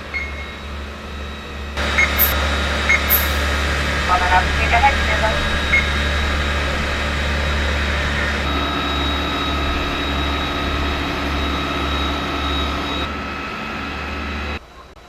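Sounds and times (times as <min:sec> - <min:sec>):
heavy engine rumble with whine: 0:00.0 - 0:15.0.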